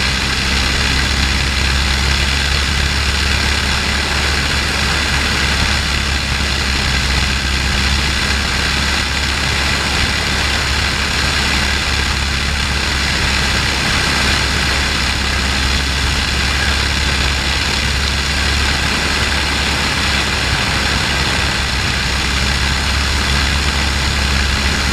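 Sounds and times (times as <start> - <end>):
aircraft engine running: 0.0 - 24.9
rush of slipstream: 0.0 - 24.9.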